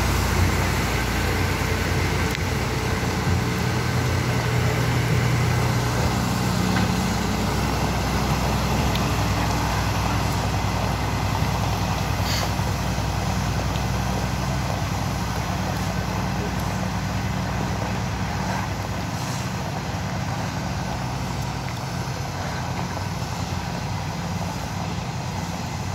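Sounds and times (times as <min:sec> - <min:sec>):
road roller diesel engine: 0:00.0 - 0:25.9
tyres rolling over stone chippings: 0:00.0 - 0:25.9.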